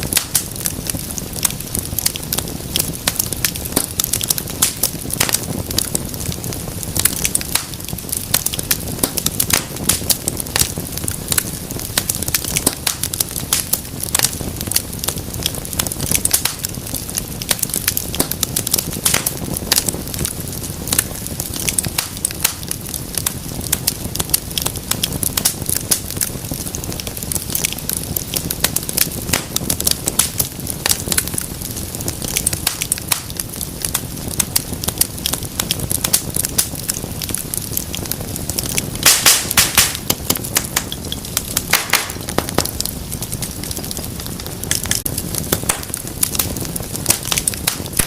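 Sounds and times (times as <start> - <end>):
flames rushing: 0.0 - 48.0
wood fire crackling and popping: 0.0 - 48.0.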